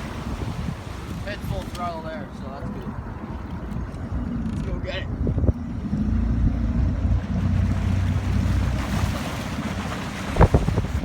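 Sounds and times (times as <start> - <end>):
water moving: 0.0 - 11.0
wind buffeting microphone: 0.0 - 11.0.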